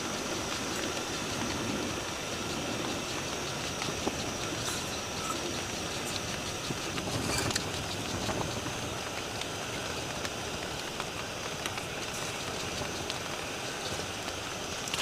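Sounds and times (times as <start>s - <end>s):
drips and ticks: 0.0s - 15.0s
steady rain hiss: 0.0s - 15.0s.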